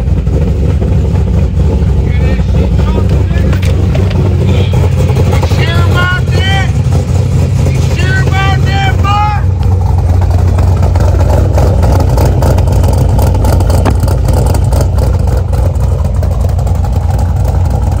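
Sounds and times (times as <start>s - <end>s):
car engine idling rumble: 0.0s - 18.0s.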